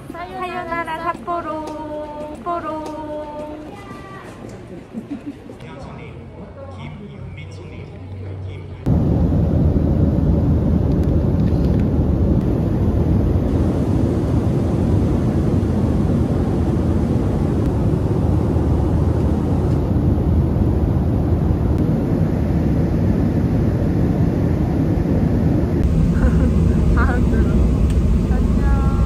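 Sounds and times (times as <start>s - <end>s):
jet engine and airflow rumble: 5.2s - 29.0s.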